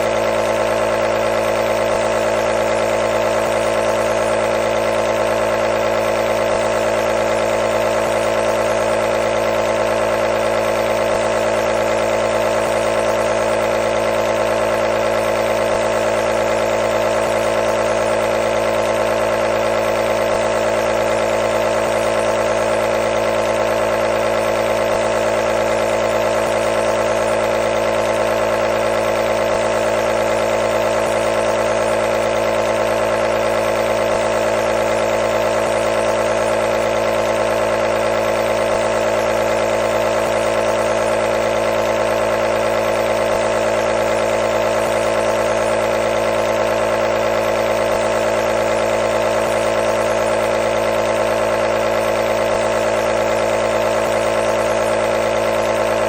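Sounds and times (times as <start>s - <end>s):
nebulizer compressor humming: 0.0s - 56.0s.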